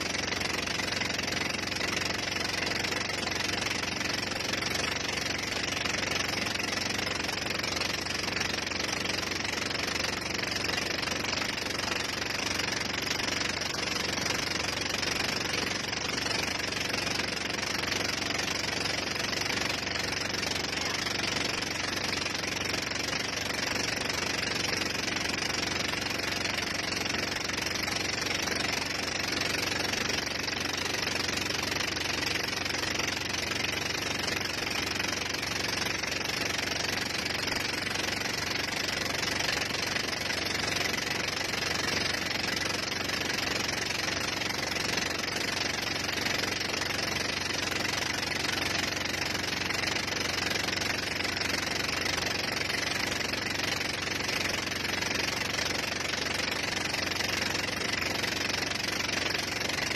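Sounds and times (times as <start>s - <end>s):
boat engine running: 0.0s - 59.9s
water noise: 0.0s - 59.9s.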